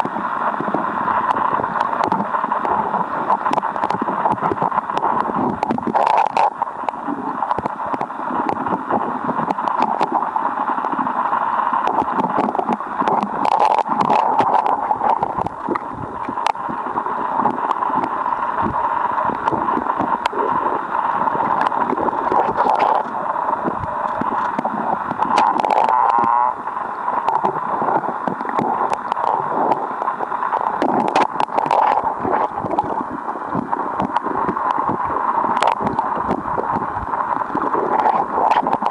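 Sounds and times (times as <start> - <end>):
underwater river rushing: 0.0 - 38.9.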